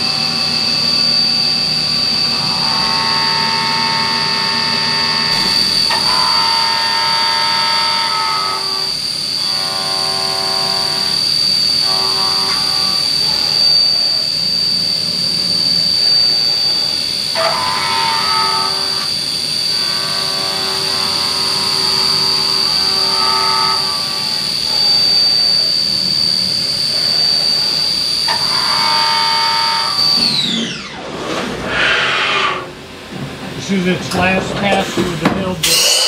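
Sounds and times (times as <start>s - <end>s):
ringing cutting squeal: 0.0s - 31.0s, 35.6s - 36.0s
milling machine spindle whine: 0.0s - 36.0s.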